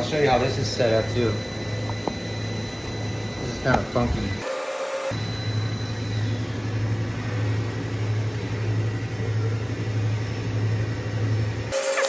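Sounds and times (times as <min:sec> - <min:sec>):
machine-shop machinery hum: 0:00.0 - 0:12.0.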